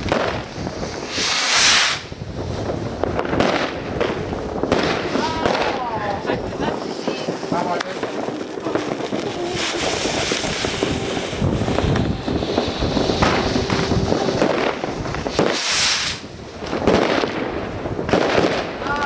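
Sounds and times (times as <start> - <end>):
rocket rushing hiss: 0.0 - 18.7
fireworks crackling bangs: 0.0 - 19.0.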